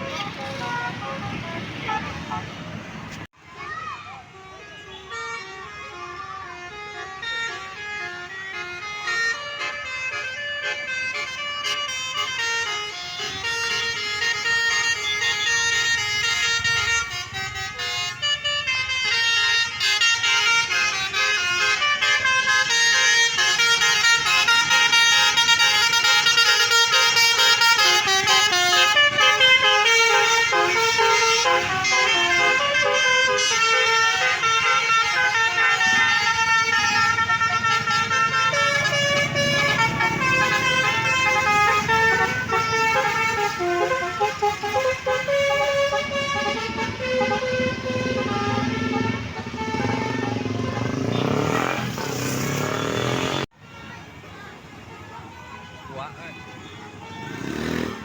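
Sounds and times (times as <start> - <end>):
multi-tone bus horn melody: 0.0 - 3.3, 4.2 - 58.0
bus engine rumbling: 0.0 - 3.4, 6.2 - 56.0.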